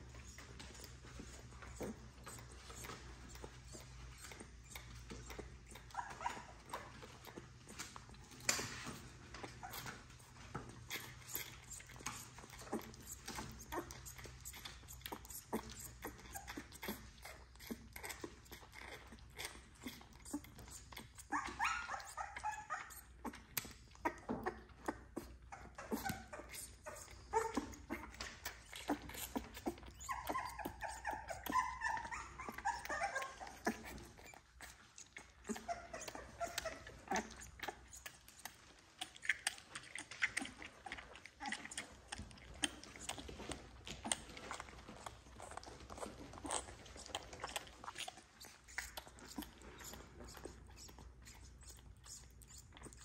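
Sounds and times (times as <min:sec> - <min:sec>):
faint clicks and rustles: 0:00.0 - 0:53.0
puppies whimpering and squeaking: 0:00.0 - 0:53.0.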